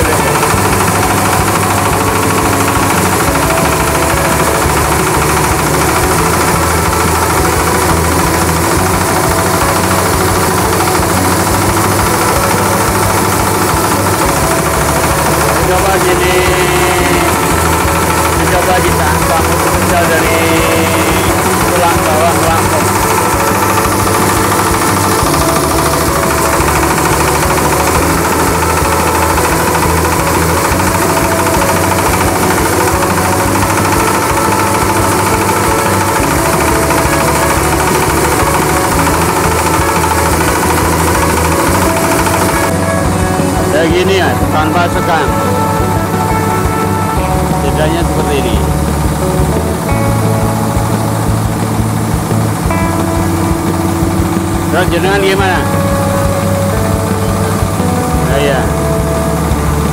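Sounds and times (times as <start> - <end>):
diesel engine running: 0.0 - 59.9
rice mill milling: 0.0 - 59.9.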